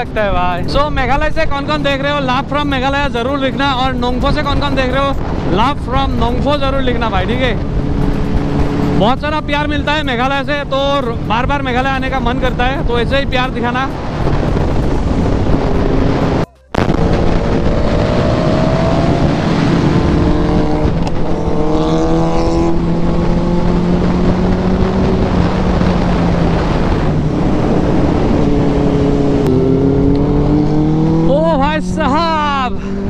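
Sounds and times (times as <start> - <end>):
motorcycle engine accelerating: 0.0 - 33.0
wind rush on microphone: 0.0 - 33.0.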